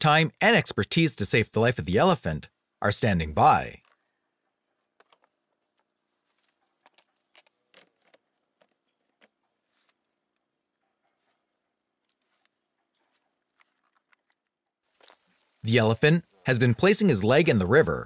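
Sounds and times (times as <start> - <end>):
faint high-pitched insect hum: 0.1 - 18.0.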